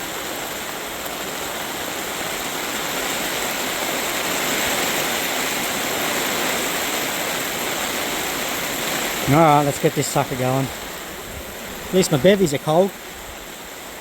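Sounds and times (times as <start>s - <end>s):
heavy rain falling: 0.0s - 14.0s
wind: 0.0s - 14.0s.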